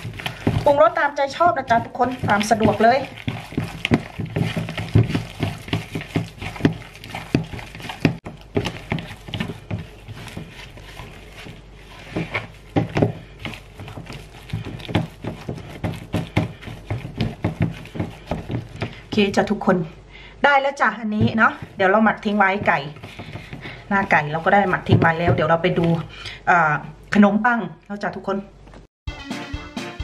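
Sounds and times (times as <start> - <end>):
hands squelching wet mixture: 0.0 - 19.7, 20.9 - 26.4.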